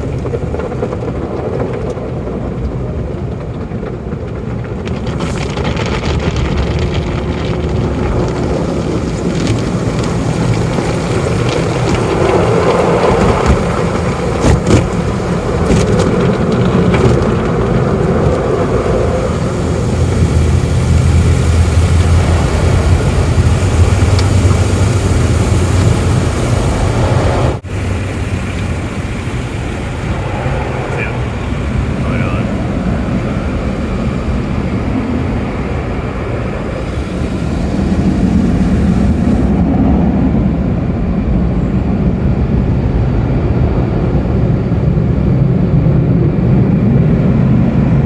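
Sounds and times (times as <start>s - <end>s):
car wash spraying water and machinery: 0.0s - 48.0s
low hum: 0.0s - 48.0s.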